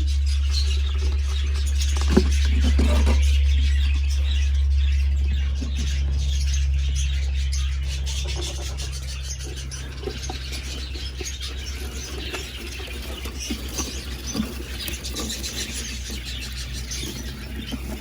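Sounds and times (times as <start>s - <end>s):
low rumble: 0.0s - 14.9s
cage birds chirping: 0.0s - 18.0s.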